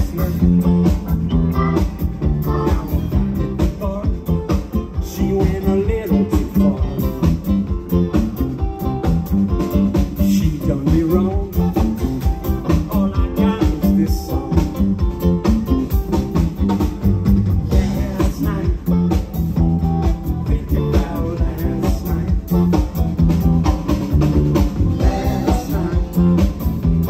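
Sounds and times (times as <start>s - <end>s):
guitar line: 0.0s - 27.0s
live rock band playing: 0.0s - 27.0s
steady drum beat: 0.0s - 27.0s.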